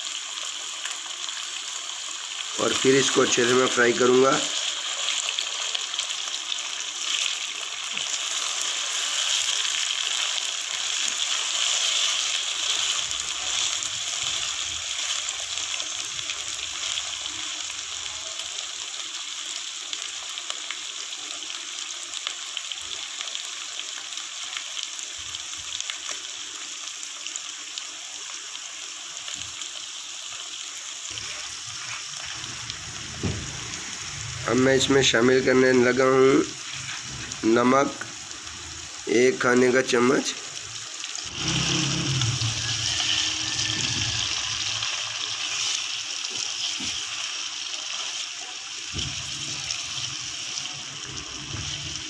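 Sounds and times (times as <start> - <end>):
chicken sizzling in a pan: 0.0 - 52.0.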